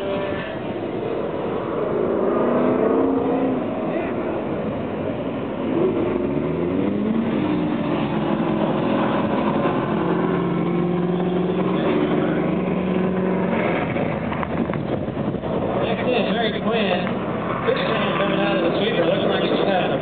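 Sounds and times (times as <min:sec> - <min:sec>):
kart engine revving: 0:00.0 - 0:20.0.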